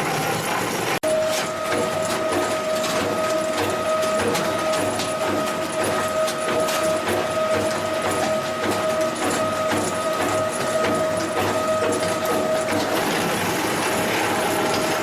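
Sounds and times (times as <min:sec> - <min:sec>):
machine knocks and clatter: 0:00.0 - 0:15.0
machine whine over hum: 0:00.0 - 0:15.0.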